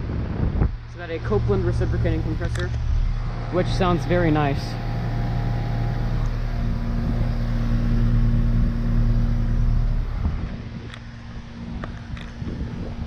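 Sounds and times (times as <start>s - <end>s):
air conditioner compressor hum: 0.0s - 13.0s
condenser unit low rumble: 0.0s - 13.0s.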